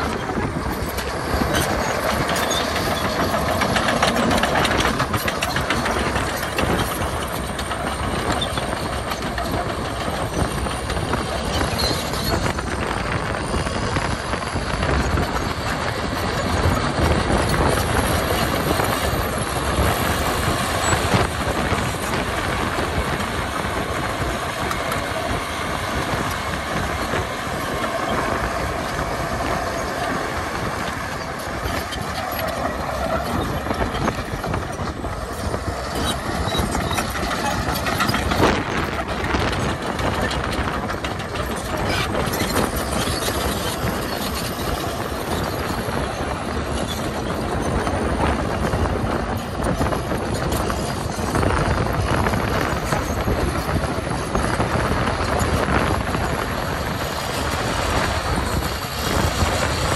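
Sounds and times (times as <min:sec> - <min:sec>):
bulldozer diesel engine under load: 0:00.0 - 0:59.9
steel tracks clattering: 0:00.0 - 0:59.9.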